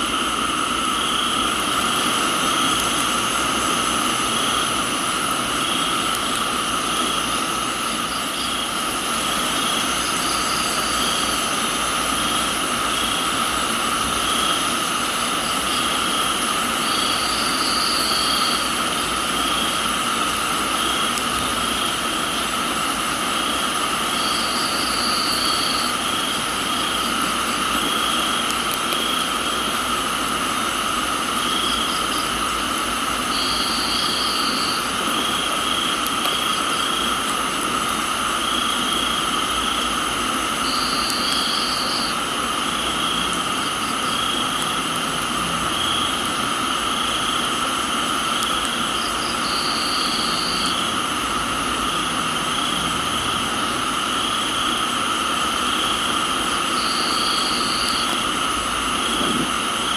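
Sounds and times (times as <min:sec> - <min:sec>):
high insect trill: 0:00.0 - 0:59.9
insect drone: 0:00.0 - 0:59.9
pulsing cricket chirp: 0:00.0 - 0:59.9
rain hiss: 0:00.0 - 0:59.9.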